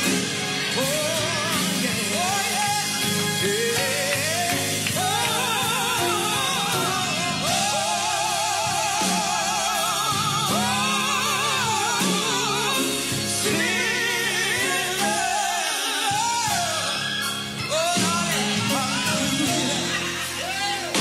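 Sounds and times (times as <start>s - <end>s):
instrumental backing: 0.0s - 21.0s
person singing with vibrato: 0.0s - 21.0s.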